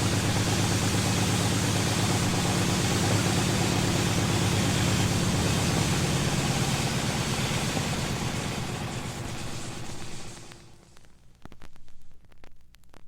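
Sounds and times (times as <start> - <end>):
engine drone: 0.0 - 10.9.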